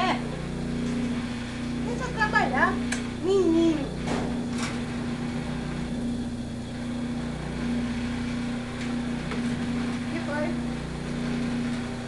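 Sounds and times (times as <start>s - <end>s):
sewing machine motor hum: 0.0s - 12.0s.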